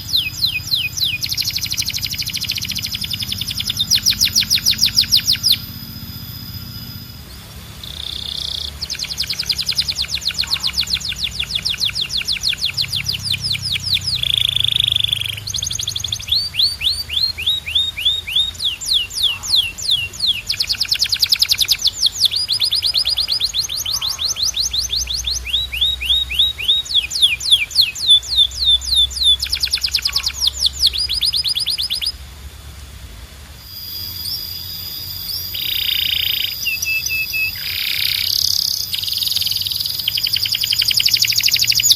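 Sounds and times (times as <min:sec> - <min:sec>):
canary singing: 0:00.0 - 0:32.3, 0:33.6 - 0:41.9.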